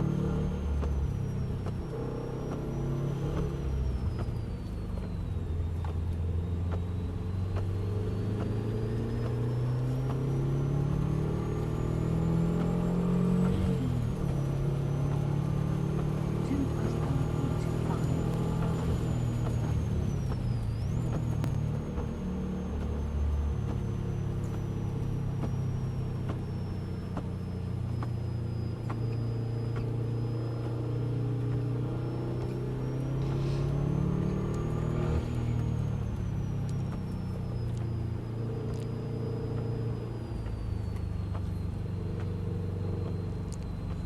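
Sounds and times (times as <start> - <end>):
car engine running under load: 0.0 - 44.0
faint high whine: 0.0 - 44.0.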